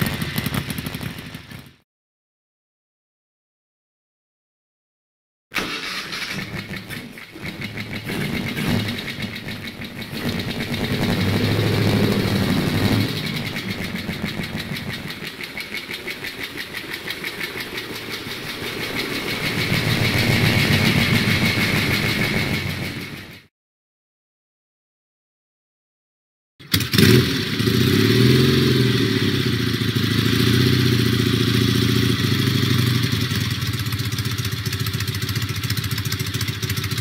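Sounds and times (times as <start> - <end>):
motorcycle engine revving: 0.0 - 1.8, 5.6 - 23.5, 26.6 - 37.0.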